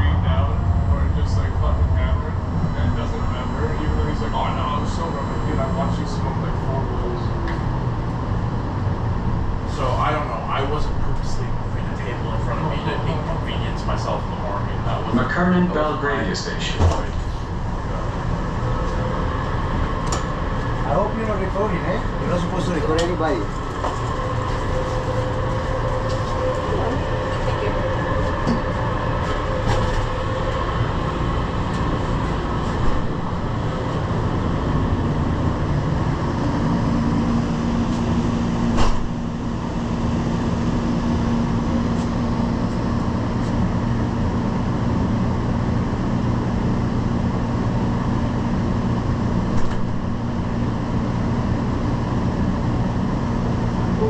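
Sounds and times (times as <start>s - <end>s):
steady hum tone: 0.0s - 54.0s
train rumble and hiss: 0.0s - 54.0s.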